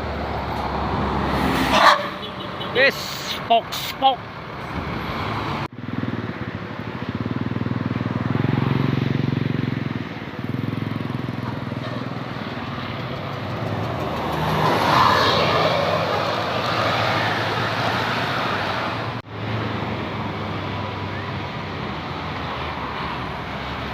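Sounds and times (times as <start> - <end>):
bus diesel engine passing: 0.0 - 23.9
road noise rushing: 0.0 - 23.9.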